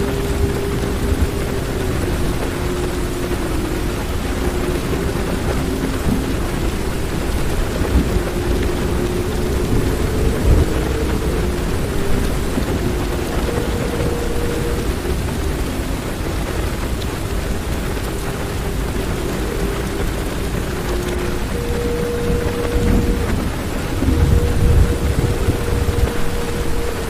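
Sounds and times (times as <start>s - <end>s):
heavy rain on car roof: 0.0s - 27.0s
thunder rumbling: 0.0s - 27.0s.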